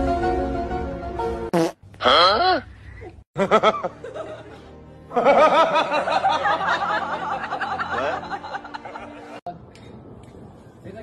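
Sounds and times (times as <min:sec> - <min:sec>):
background music: 0:00.0 - 0:02.7, 0:03.4 - 0:10.8.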